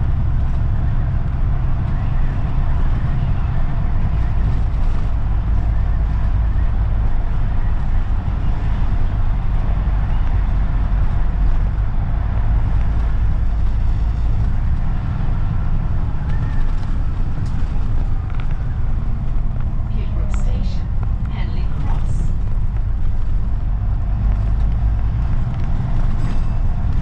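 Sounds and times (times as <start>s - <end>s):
bus engine rumble: 0.0s - 27.0s
road and tyre noise: 0.0s - 27.0s.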